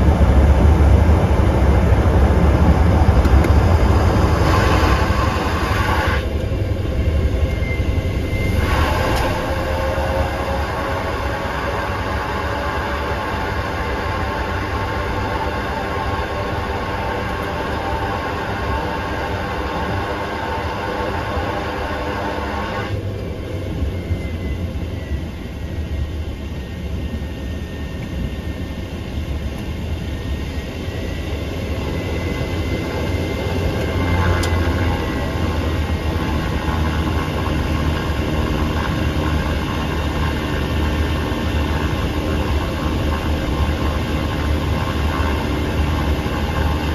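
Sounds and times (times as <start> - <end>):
propeller aircraft engine drone: 0.0 - 46.9.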